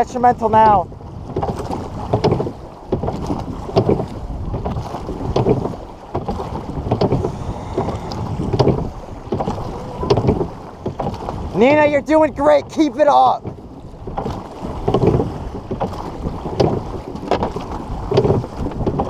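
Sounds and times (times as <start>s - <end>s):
oars knocking: 0.0s - 19.0s
rushing water: 0.0s - 19.0s
wind on microphone: 0.0s - 19.0s.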